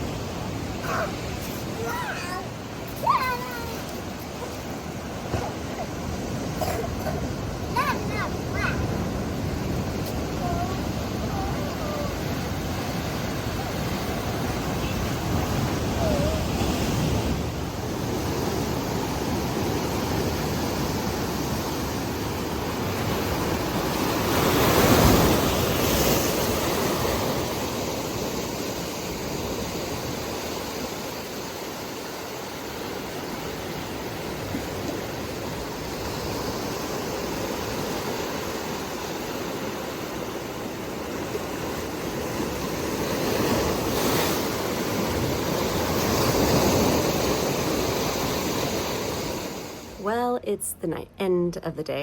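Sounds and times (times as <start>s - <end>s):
ocean waves washing ashore: 0.0s - 52.0s.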